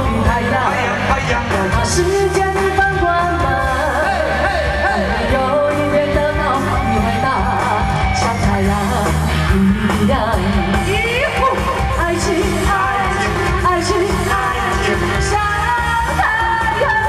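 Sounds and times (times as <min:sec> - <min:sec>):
pop backing track with bass: 0:00.0 - 0:17.0
woman singing into a microphone: 0:00.0 - 0:17.0.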